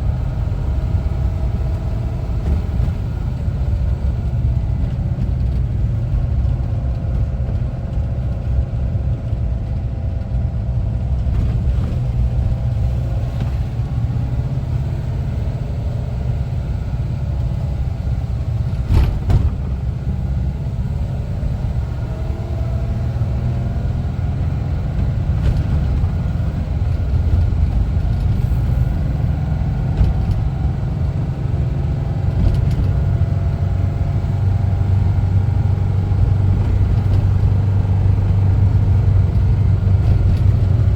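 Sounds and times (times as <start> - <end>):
van engine rumbling: 0.0 - 40.9.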